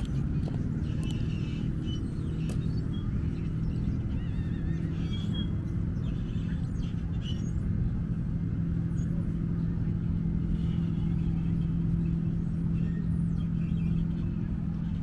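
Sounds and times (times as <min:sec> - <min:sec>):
engine hum: 0:00.0 - 0:15.0
low rumble: 0:00.0 - 0:15.0.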